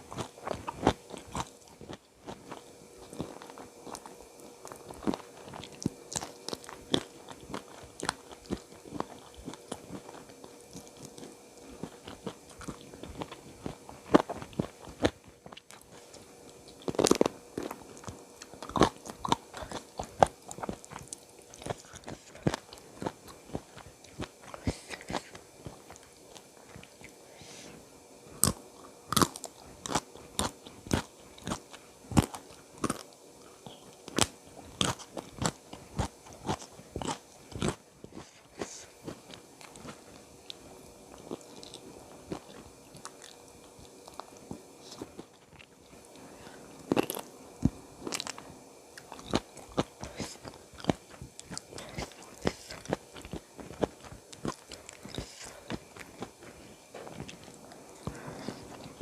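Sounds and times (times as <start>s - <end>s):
crunchy food being chewed: 0.0s - 27.2s, 28.2s - 59.0s.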